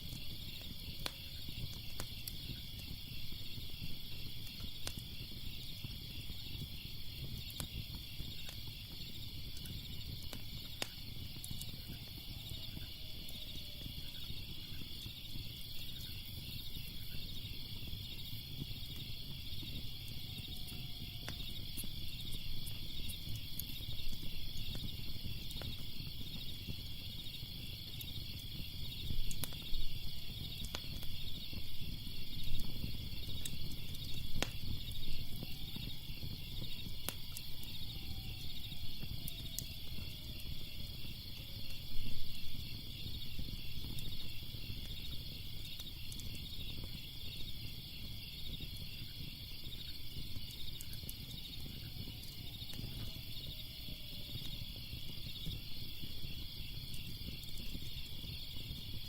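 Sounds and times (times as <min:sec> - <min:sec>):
crickets chirping: 0:00.0 - 0:59.0
fire crackling with sharp pops: 0:00.0 - 0:59.0.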